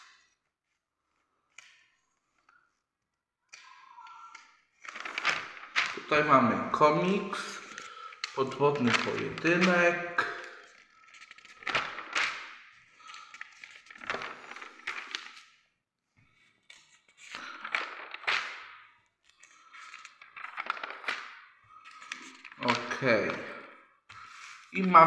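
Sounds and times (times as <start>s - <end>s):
magazine pages rustling: 4.4s - 25.0s.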